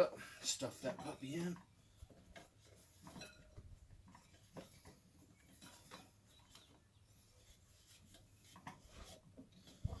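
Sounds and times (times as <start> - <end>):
rubber tire scraping and rubbing: 1.8 - 10.0.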